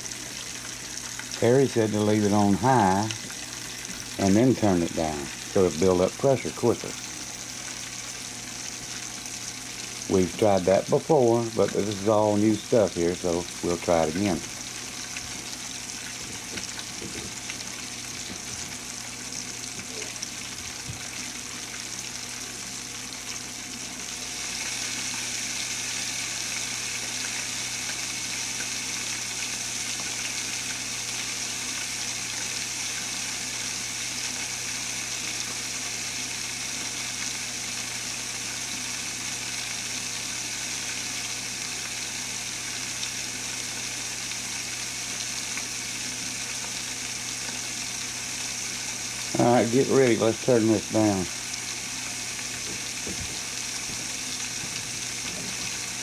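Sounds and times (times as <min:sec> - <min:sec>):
chicken frying in hot oil: 0:00.0 - 0:56.0.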